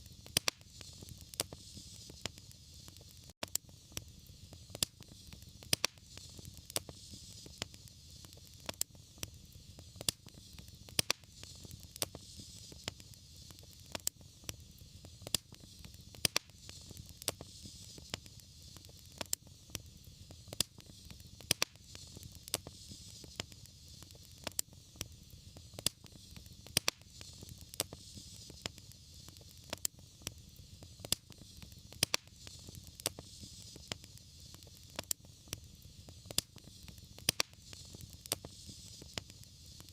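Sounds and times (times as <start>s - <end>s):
fire pops and snaps: 0.0s - 39.9s
low rumble of fire: 0.0s - 39.9s
soft hiss of fire: 0.0s - 39.9s.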